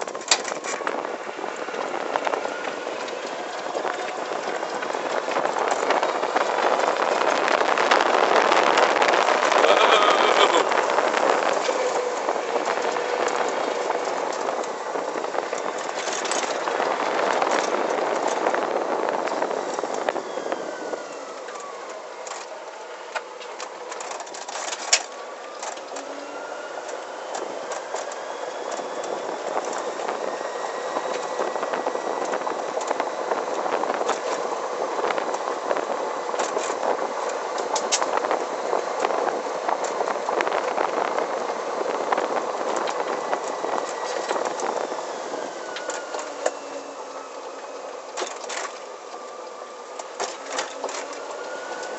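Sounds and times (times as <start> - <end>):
electric motor whine: 0.0 - 51.9
tyre and wind noise: 0.0 - 51.9.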